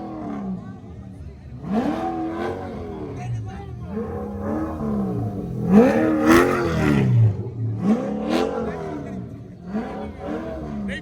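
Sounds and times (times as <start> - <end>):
car engine revving hard: 1.6 - 10.9.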